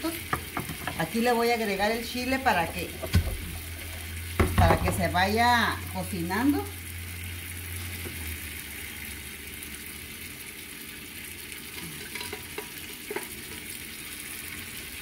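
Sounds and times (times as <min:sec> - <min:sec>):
sauce sizzling in frying pan: 0:00.0 - 0:15.0.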